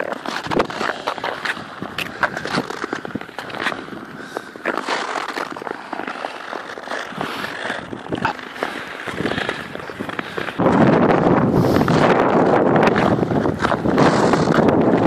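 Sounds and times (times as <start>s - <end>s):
ice skates scraping over ice: 0.0s - 15.0s.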